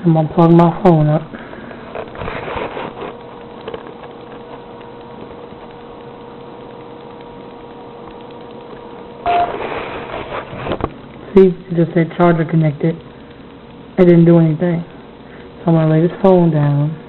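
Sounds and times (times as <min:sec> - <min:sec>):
faint hum: 0:00.0 - 0:17.0
noise burst with tone: 0:00.9 - 0:15.8.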